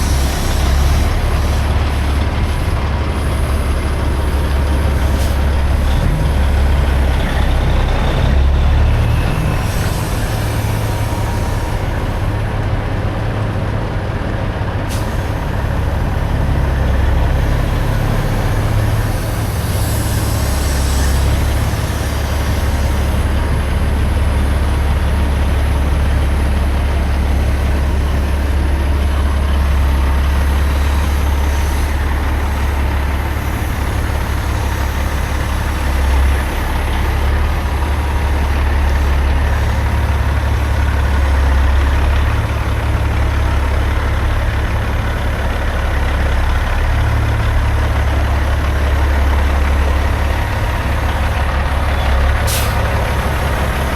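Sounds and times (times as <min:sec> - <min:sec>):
diesel truck engine droning: 0:00.0 - 0:53.9.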